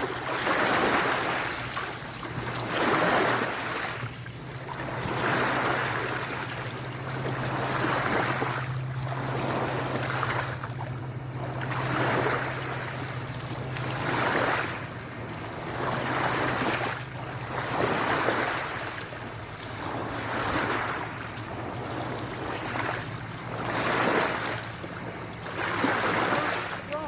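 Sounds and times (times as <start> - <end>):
sea water surging: 0.0 - 27.0.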